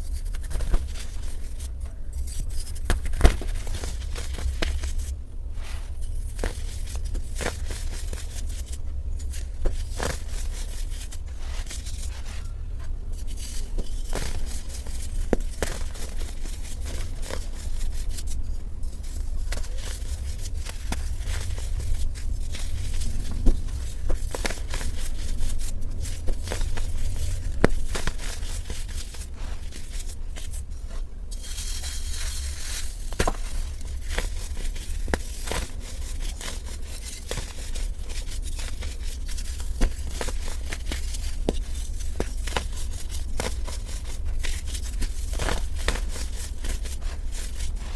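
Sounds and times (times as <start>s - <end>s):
dry crunching and crackling: 0.0s - 47.9s
steady low hum: 0.0s - 47.9s.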